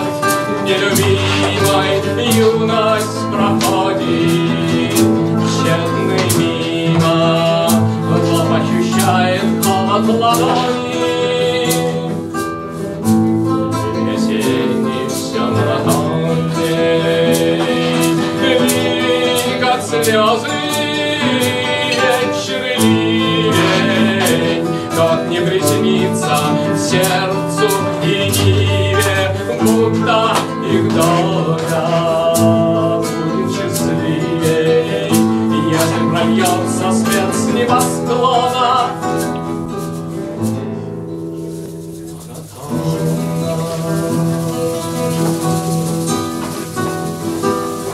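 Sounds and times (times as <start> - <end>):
man singing: 0.0 - 47.9
nylon-string guitars strummed: 0.0 - 47.9.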